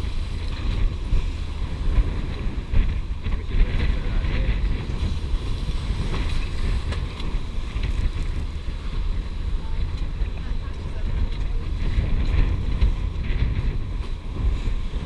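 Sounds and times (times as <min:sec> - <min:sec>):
water rushing along hulls: 0:00.0 - 0:15.0
wind buffeting microphone: 0:00.0 - 0:15.0.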